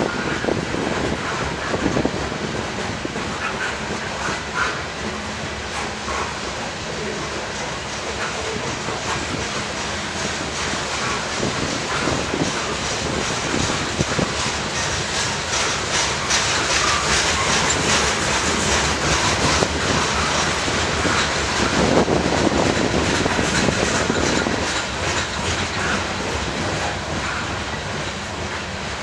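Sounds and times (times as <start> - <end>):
train rolling rumble: 0.0 - 29.0
train wheels clattering over rail joints: 0.0 - 29.0.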